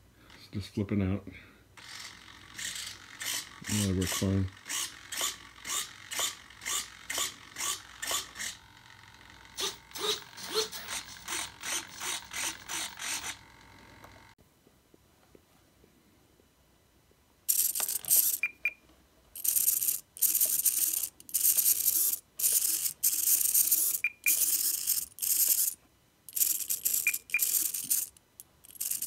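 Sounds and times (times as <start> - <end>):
servo buzzing and chattering: 1.8 - 14.4, 17.5 - 18.8, 19.4 - 29.0.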